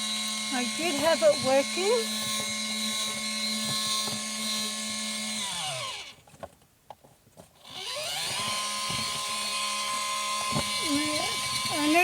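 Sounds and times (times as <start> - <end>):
spin dryer motor humming: 0.0 - 6.2, 7.7 - 12.0.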